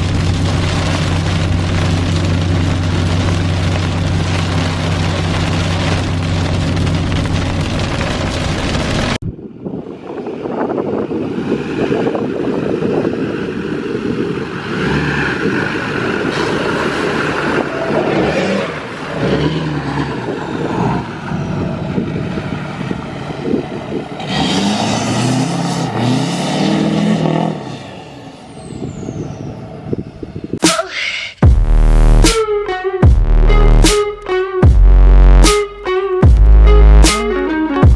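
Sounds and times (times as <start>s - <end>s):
diesel pickup engine accelerating: 0.0s - 9.2s, 10.9s - 29.6s, 33.1s - 35.5s, 36.2s - 37.9s
road and wind noise: 0.0s - 30.6s, 33.0s - 37.9s.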